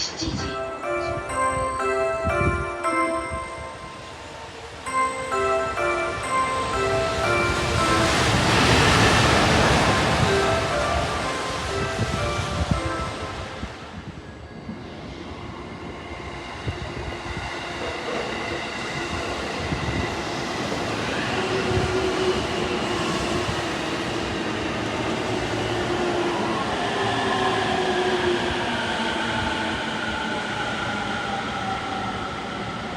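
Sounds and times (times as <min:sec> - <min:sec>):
electric train on rails: 0:00.0 - 0:32.9.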